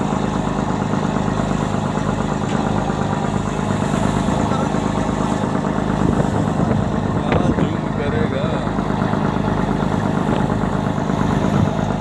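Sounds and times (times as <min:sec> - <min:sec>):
rush of choppy water: 0:00.0 - 0:12.0
small boat engine running: 0:00.0 - 0:12.0.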